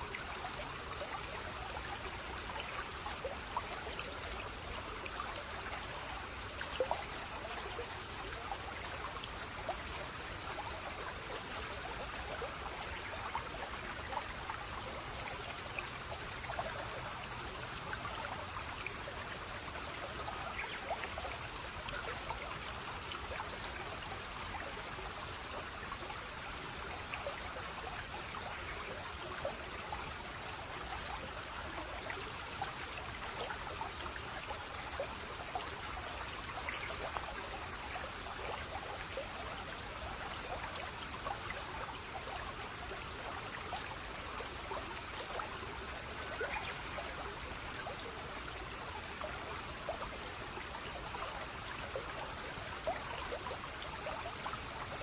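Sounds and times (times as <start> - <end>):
running water flowing and trickling: 0.0 - 55.0.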